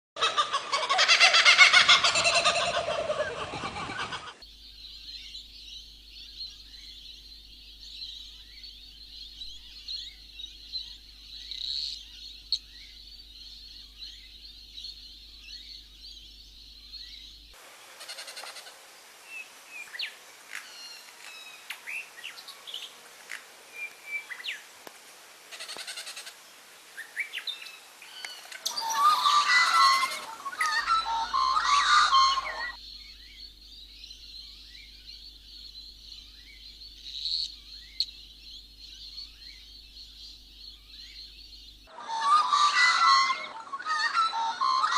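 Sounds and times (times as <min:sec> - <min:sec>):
birds chirping and calling: 0:00.2 - 0:24.7, 0:25.5 - 0:44.9.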